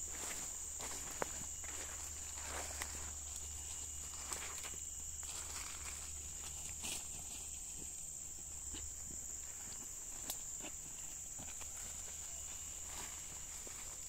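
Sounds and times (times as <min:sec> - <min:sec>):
footsteps on dry ground: 0:00.0 - 0:14.0
insect chorus drone: 0:00.0 - 0:14.0.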